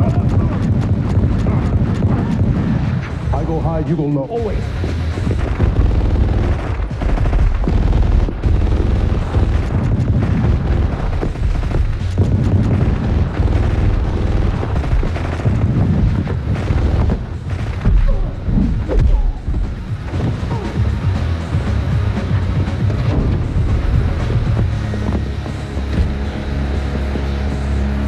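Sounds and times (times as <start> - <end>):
gunshots: 0.0 - 27.6
booming impacts: 0.0 - 28.0
heavy low rumble: 0.0 - 28.0.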